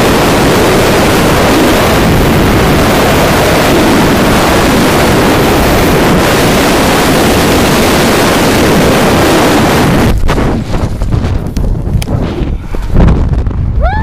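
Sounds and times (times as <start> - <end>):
wind rushing on microphone: 0.0 - 14.0.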